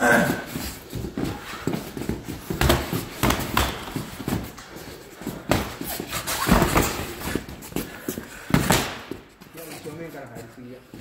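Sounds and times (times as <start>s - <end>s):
boxing gloves thudding: 0.1s - 9.3s.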